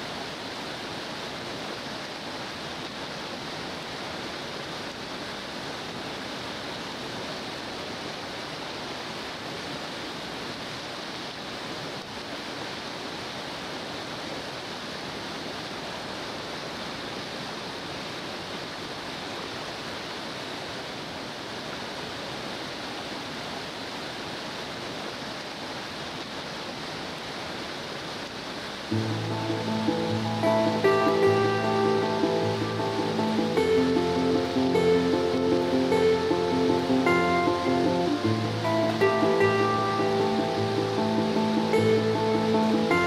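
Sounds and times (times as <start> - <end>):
river rapids rushing: 0.0 - 43.0.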